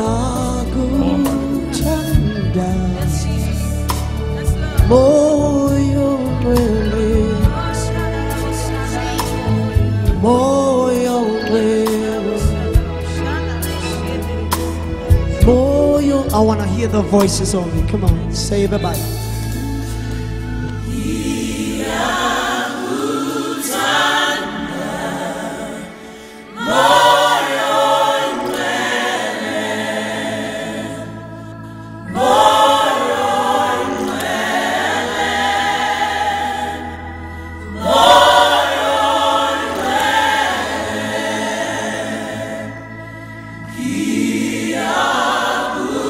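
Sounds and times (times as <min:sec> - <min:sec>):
gospel choir singing: 0:00.0 - 0:46.0.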